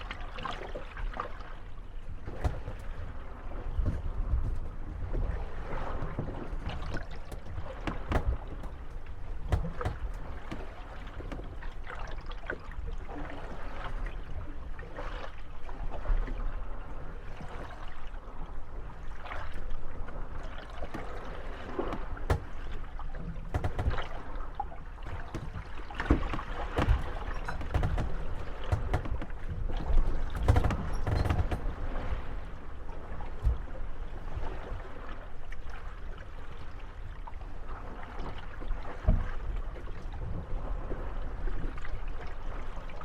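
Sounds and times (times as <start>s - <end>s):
water lapping and sloshing: 0.0s - 43.0s
wooden boats bumping and creaking: 0.0s - 43.0s.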